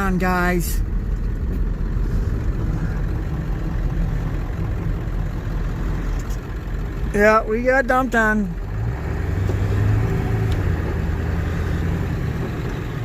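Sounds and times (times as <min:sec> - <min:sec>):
diesel engine low rumble: 0:00.0 - 0:13.0
road and tyre noise: 0:00.0 - 0:13.0.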